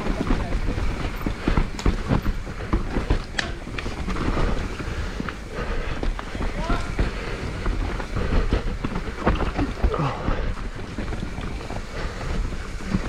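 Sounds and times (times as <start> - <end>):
bike clattering and knocking: 0.0 - 13.0
tyres rumbling over dirt and rock: 0.0 - 13.0.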